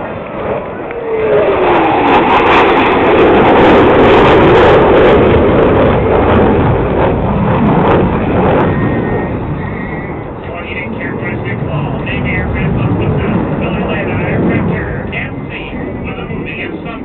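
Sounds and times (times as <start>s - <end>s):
jet roar overhead: 0.0s - 17.0s.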